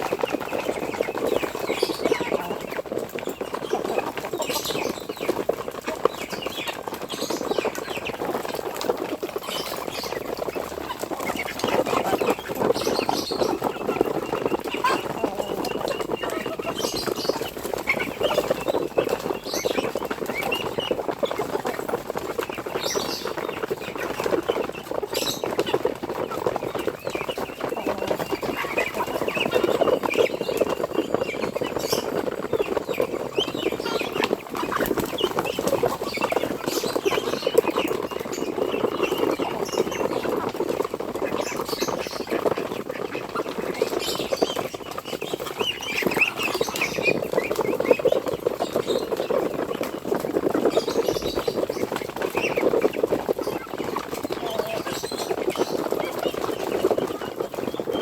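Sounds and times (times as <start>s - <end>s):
poultry flock chattering: 0.0s - 58.0s
rustling and scratching: 0.0s - 58.0s.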